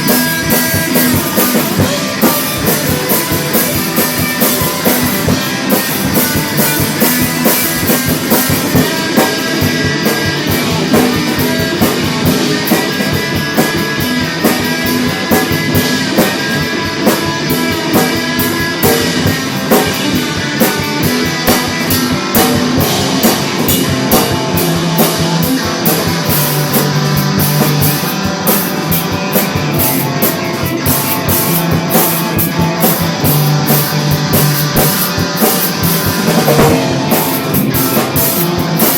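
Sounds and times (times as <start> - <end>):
rock music with drums and guitar: 0.0 - 38.9.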